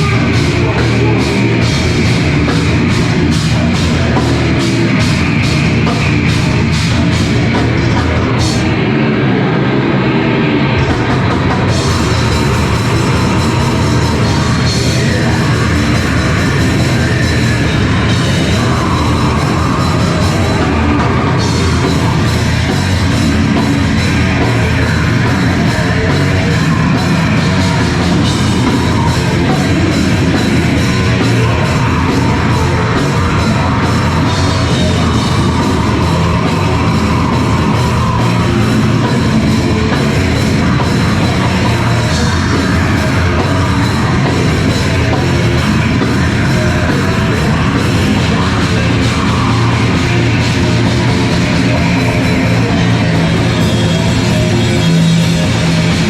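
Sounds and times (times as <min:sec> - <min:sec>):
drum kit: 0:00.0 - 0:56.0
heavy rock band playing: 0:00.0 - 0:56.0.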